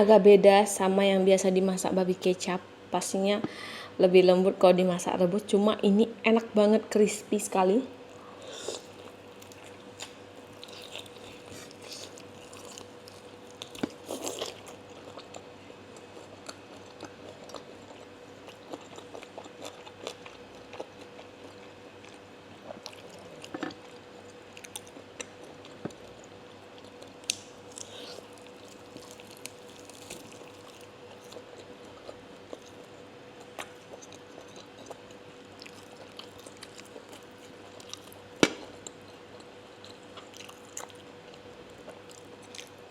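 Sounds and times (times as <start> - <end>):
chewing and crunching crispy food: 8.1 - 42.9.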